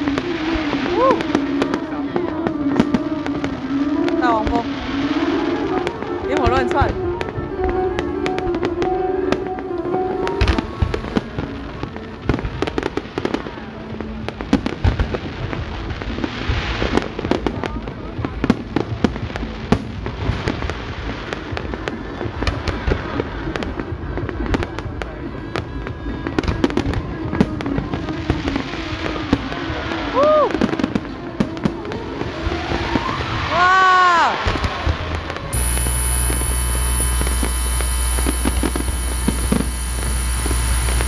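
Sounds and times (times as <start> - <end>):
music: 0.0 - 36.6
fireworks bangs and pops: 0.0 - 41.0
fireworks crackling: 0.0 - 41.0.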